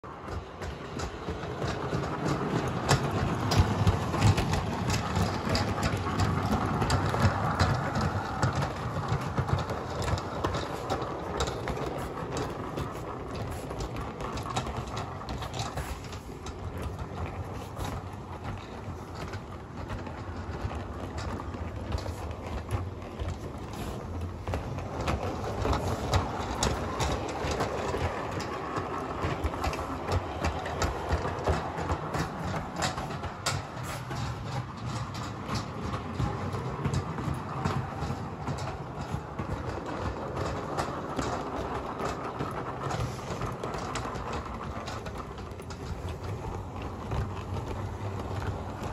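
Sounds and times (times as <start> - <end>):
wheels clicking over rail joints: 0.0 - 48.9.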